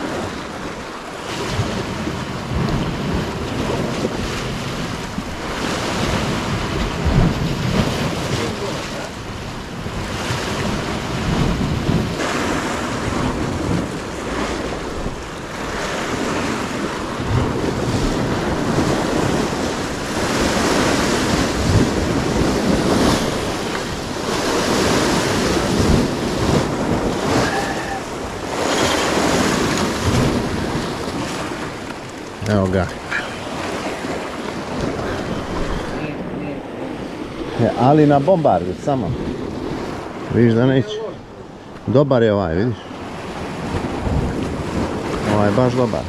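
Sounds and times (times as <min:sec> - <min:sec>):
surf breaking on rocks: 0:00.0 - 0:46.0
wind buffeting microphone: 0:00.0 - 0:46.0.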